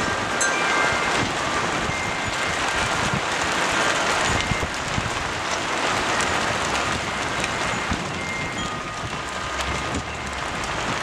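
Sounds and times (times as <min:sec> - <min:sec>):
hailstones hitting a roof: 0:01.0 - 0:11.0.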